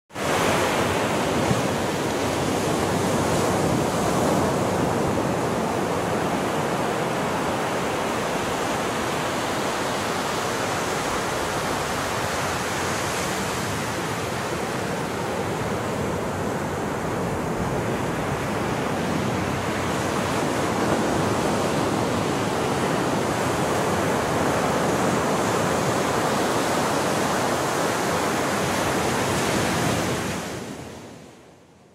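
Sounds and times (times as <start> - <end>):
surf breaking on a beach: 0.1 - 31.4.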